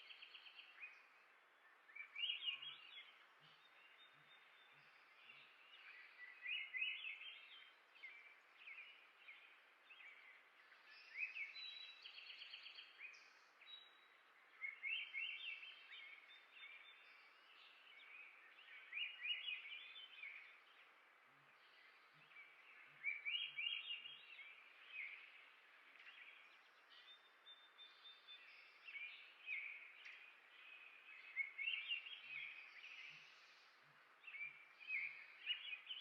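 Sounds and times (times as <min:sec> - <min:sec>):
faint steady hiss: 0:00.0 - 0:36.0.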